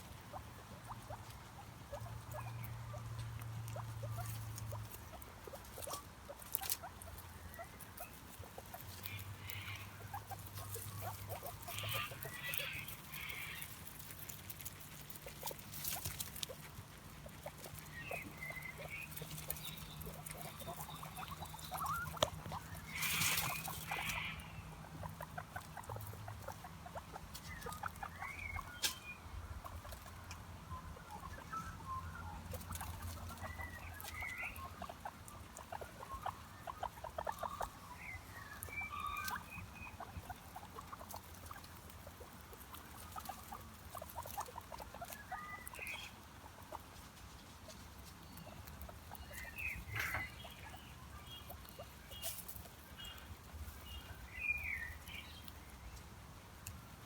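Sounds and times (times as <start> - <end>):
animal squeaks and chirps: 3.7 - 14.0, 15.1 - 41.8, 42.8 - 46.2, 48.3 - 55.4.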